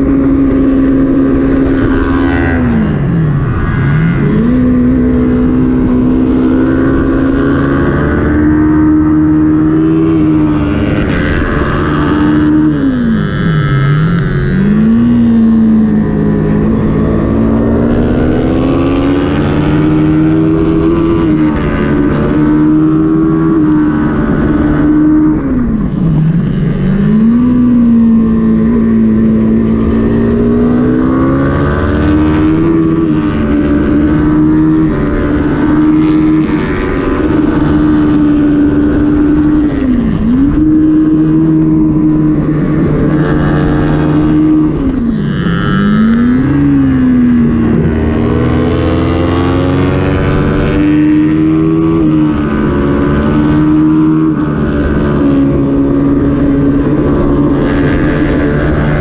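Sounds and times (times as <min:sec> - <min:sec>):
motorcycle engine revving through gears: 0:00.0 - 0:59.0
wind rush: 0:00.0 - 0:59.0.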